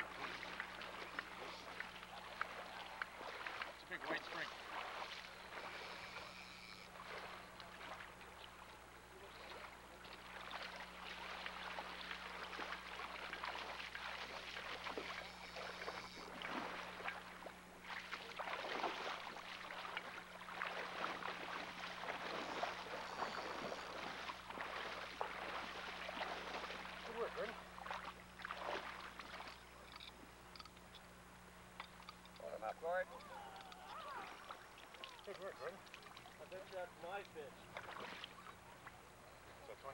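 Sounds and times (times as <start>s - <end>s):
water splashing and sloshing: 0.0s - 31.1s, 31.8s - 39.0s
steady low hum: 0.0s - 39.9s.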